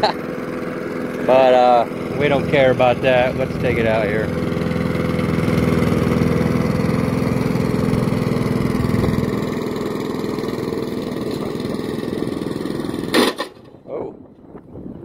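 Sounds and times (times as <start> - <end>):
lawn mower engine running: 0.0 - 13.8.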